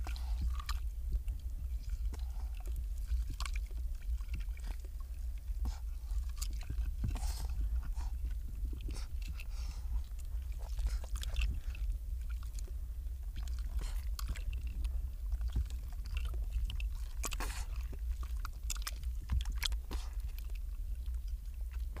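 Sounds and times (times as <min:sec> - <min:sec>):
low rumble: 0:00.0 - 0:22.0
seal pup smacking and splashing: 0:00.0 - 0:22.0.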